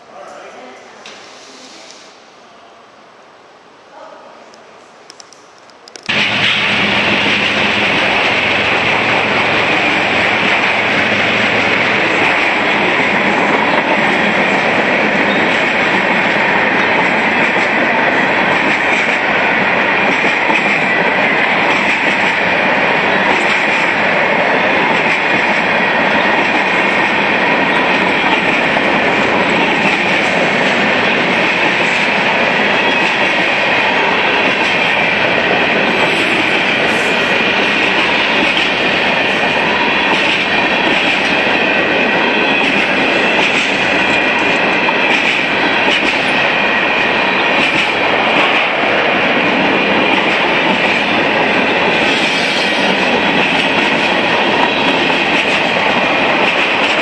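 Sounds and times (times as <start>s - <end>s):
train wheels on rails: 0.9s - 2.3s, 4.8s - 57.0s.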